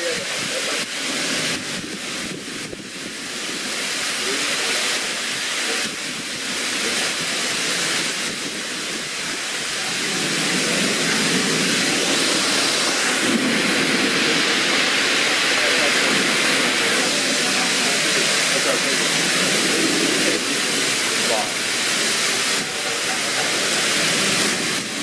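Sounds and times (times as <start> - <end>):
gusting wind: 0.0 - 25.0
heavy rain on pavement and cars: 0.0 - 25.0.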